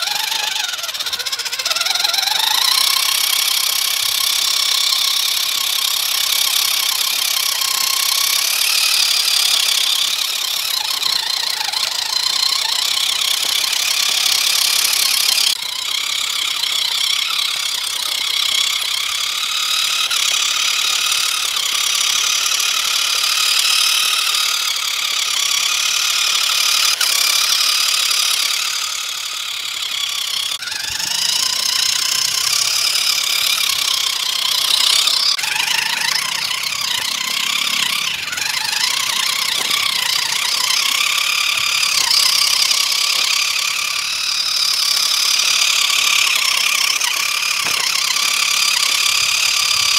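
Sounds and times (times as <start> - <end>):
rattle: 0.0 - 49.9
toy truck motor whining: 0.0 - 49.9.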